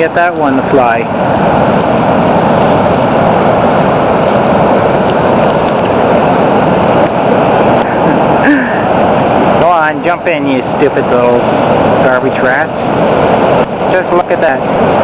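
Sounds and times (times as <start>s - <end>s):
floodwater roaring over dam: 0.0s - 15.0s.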